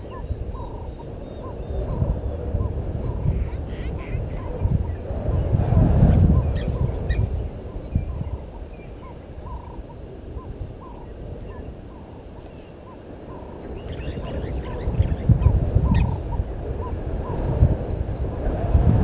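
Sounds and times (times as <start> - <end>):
bird calls: 0.0 - 5.1, 6.4 - 17.5.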